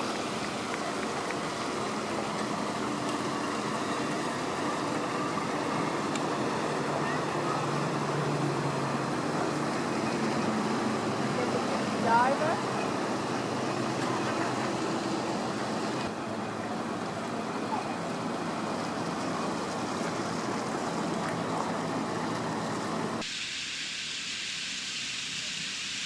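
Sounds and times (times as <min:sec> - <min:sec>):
boat engine running: 0:00.0 - 0:23.2
water rushing along hull: 0:00.0 - 0:26.0.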